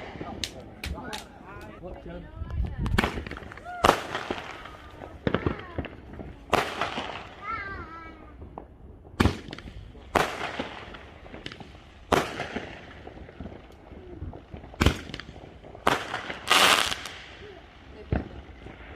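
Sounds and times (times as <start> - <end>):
fireworks bangs: 0.0 - 1.9, 2.5 - 18.9.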